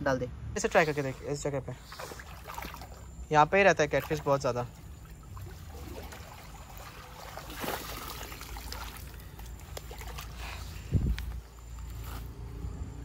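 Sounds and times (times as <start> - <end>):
water splashing and trickling: 0.6 - 11.9.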